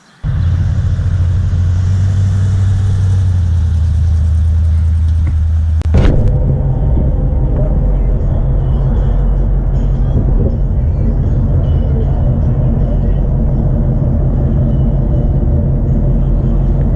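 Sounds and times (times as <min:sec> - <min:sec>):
car engine idling: 0:00.2 - 0:16.9.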